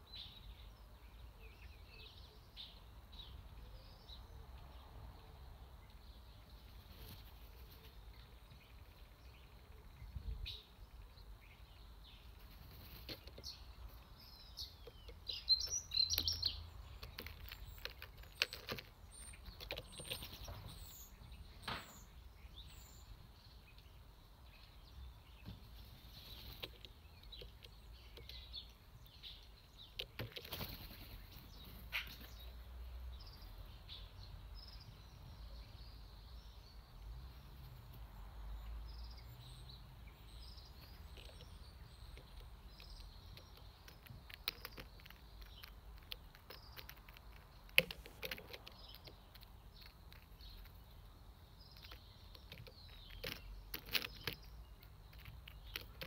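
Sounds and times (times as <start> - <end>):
distant birds chirping: 0.0 - 56.0.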